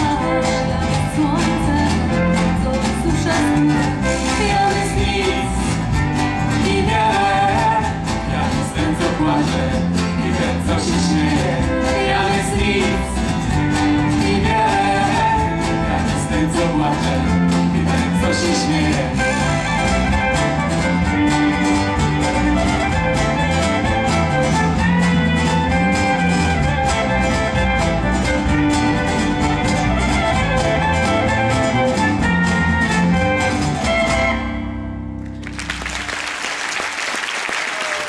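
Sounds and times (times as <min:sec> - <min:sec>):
folk band with guitars and violin: 0:00.0 - 0:36.4.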